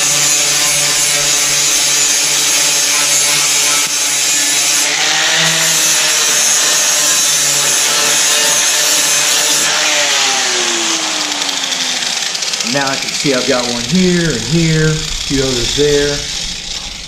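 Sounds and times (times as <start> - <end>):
angle grinder sanding metal: 0.0 - 17.0.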